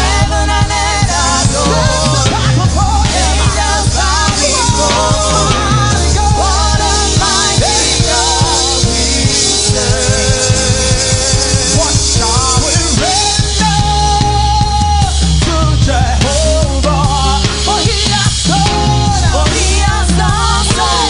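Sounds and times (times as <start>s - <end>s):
drum kit rapid strokes: 0.0s - 21.0s
gospel band playing: 0.0s - 21.0s
steady bass: 0.0s - 21.0s.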